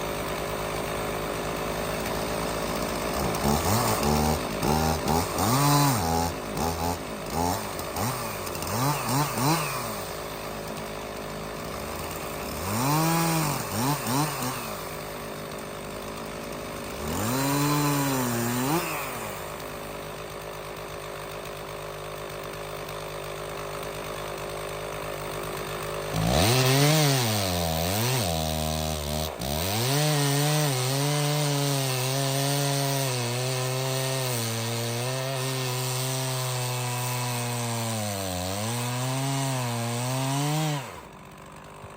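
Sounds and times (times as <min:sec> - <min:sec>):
chainsaw revving and cutting wood: 0:00.0 - 0:41.9.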